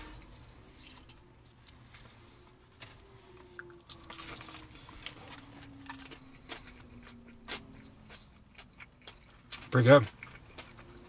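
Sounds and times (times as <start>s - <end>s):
crunchy chewing: 0.0s - 11.0s.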